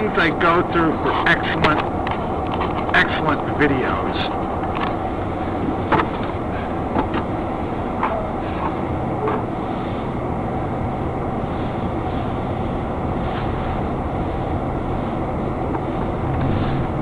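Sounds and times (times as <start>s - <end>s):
truck engine and tyres rumbling: 0.0s - 17.0s.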